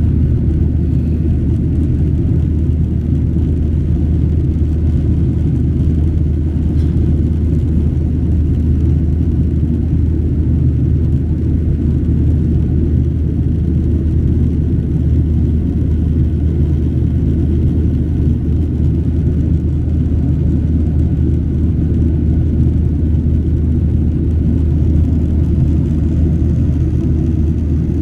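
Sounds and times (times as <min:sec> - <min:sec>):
airflow over fuselage: 0:00.0 - 0:28.0
airplane cabin engine roar: 0:00.0 - 0:28.0.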